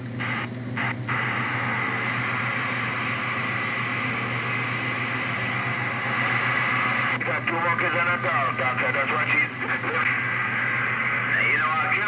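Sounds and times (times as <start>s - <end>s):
low hum: 0.0s - 11.3s
radio static hiss: 0.2s - 12.0s.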